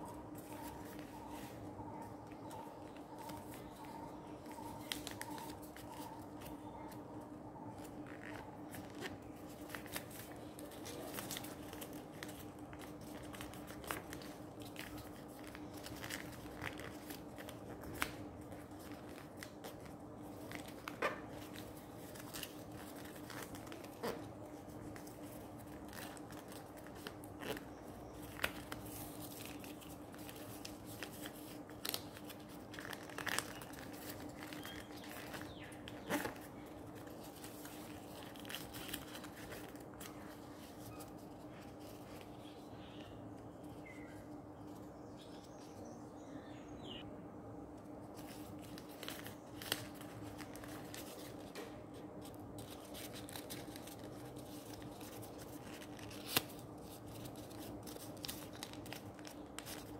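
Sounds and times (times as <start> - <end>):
paper crinkling and crackling: 0.0 - 46.0, 47.9 - 59.9
steady low hum: 0.0 - 59.9.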